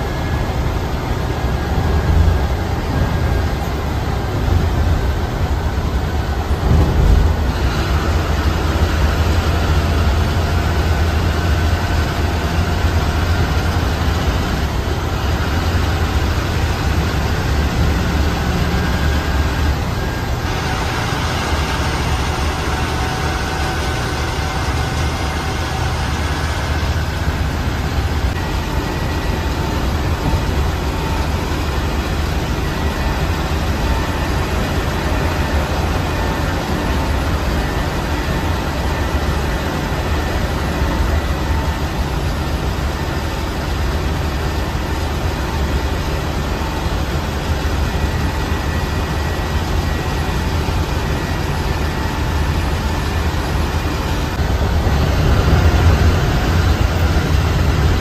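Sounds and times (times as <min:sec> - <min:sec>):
diesel engine low rumble: 0:00.0 - 0:58.0.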